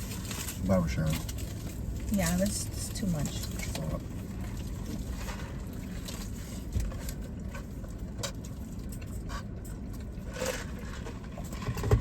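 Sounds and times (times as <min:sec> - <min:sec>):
food containers clicking and rustling: 0:00.0 - 0:12.0
low steady rumble: 0:00.0 - 0:12.0.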